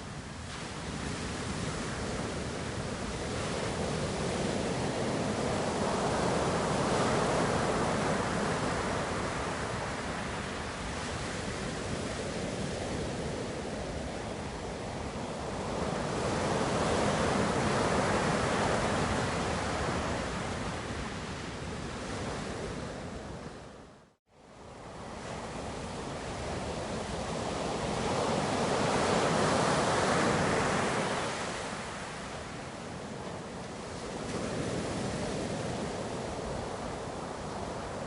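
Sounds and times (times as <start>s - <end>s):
ocean waves washing in: 0.0s - 38.0s.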